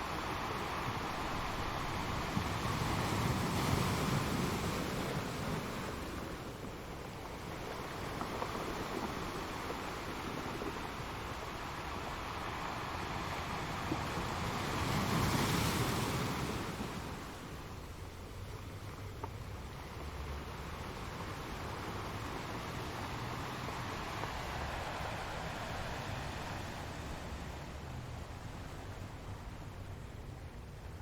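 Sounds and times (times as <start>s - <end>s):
ocean waves breaking on shore: 0.0s - 18.5s, 19.5s - 30.9s.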